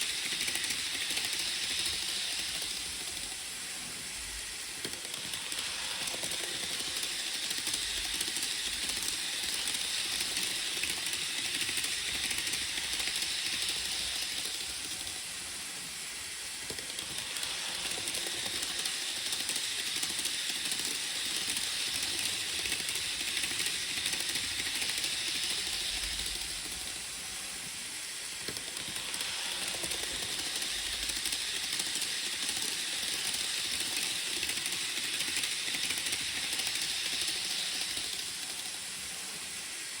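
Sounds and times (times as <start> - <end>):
model train wheels rattling: 0.0 - 40.0.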